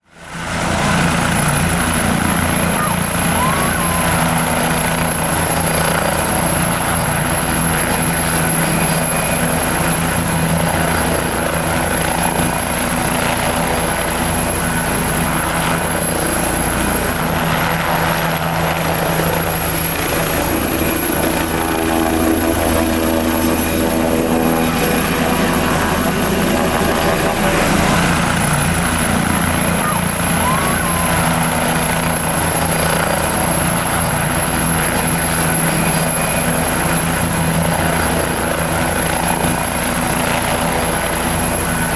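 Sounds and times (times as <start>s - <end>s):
helicopter engine hum: 0.0s - 41.9s
helicopter rotor blades chopping: 0.0s - 41.9s
high steady engine tones: 0.1s - 41.9s.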